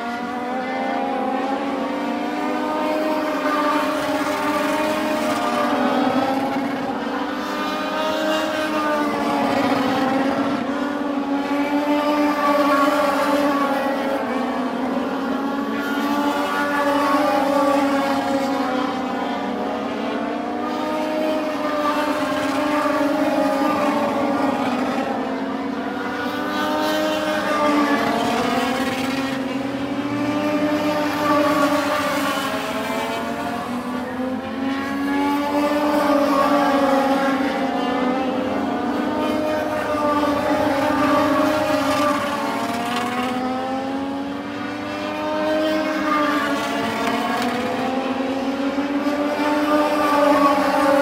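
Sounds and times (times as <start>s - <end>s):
race car engines at speed: 0.0s - 51.0s.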